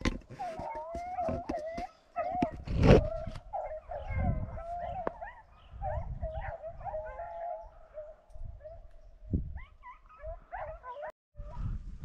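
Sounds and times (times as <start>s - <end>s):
dogs yelping: 0.3s - 8.9s, 9.6s - 11.1s.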